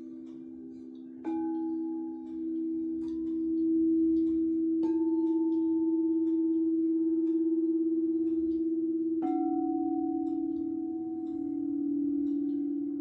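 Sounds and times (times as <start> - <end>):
singing bowl strike: 0.0 - 13.0
singing bowls humming: 0.0 - 13.0.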